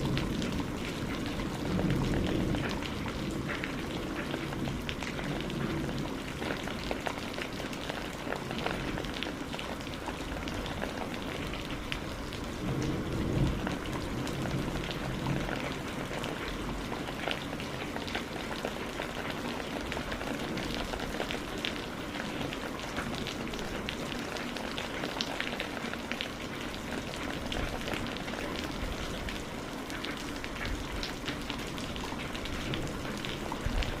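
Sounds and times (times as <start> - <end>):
rain drops ticking on a surface: 0.0 - 34.0.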